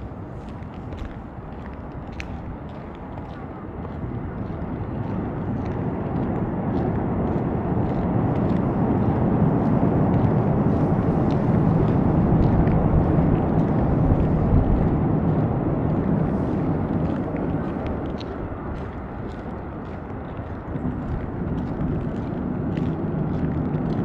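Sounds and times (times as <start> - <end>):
passing vehicle rumble: 4.0 - 24.0.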